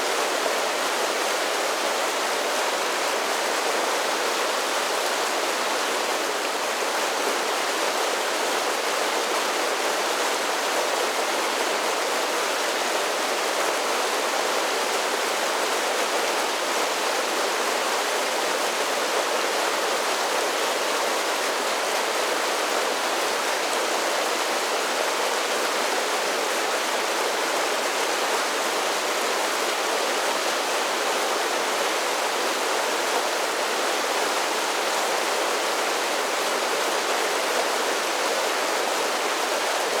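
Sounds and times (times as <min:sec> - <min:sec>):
creek water over small waterfalls: 0:00.0 - 0:40.0.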